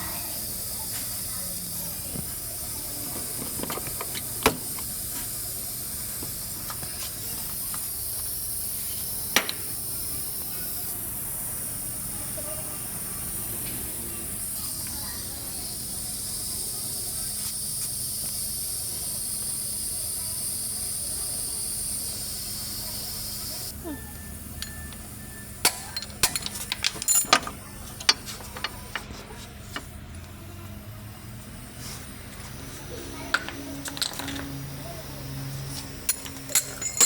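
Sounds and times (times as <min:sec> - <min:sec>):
continuous hissing noise: 0:00.0 - 0:37.0.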